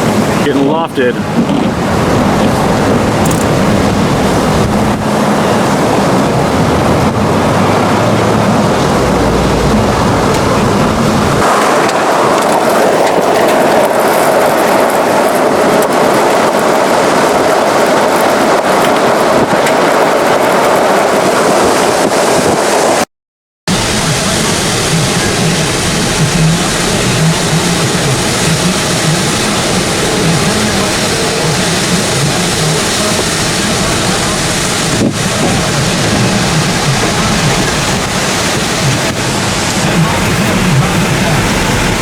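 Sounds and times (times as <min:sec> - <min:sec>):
wind buffeting microphone: 0:00.0 - 0:23.0, 0:23.7 - 0:42.0
deep rumble: 0:01.2 - 0:19.6, 0:23.7 - 0:42.0.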